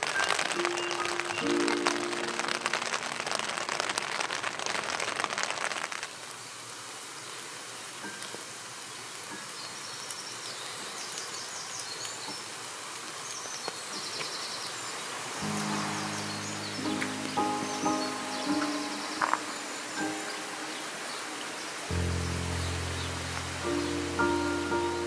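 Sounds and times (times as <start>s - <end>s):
rain pattering: 0.0s - 25.0s.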